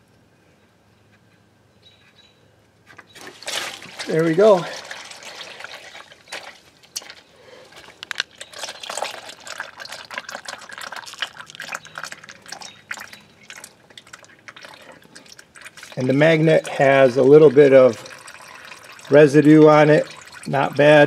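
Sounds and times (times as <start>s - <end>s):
oil stream spattering: 3.1s - 21.0s
drips and splashes: 3.2s - 21.0s.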